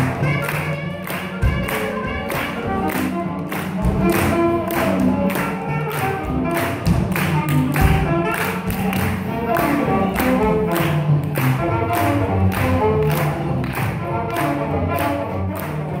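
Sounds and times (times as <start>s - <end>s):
swing jazz band playing: 0.0s - 16.0s.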